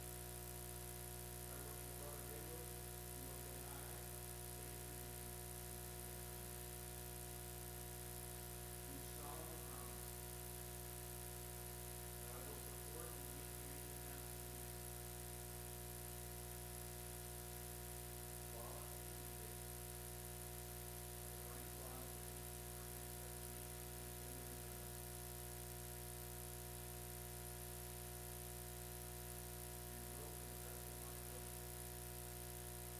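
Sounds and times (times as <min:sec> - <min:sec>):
electrical hum and buzz: 0:00.0 - 0:32.9.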